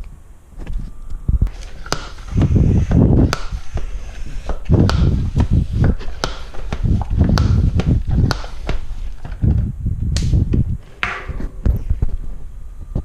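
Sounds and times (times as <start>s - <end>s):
bicycle pump thumping: 1.5s - 11.9s.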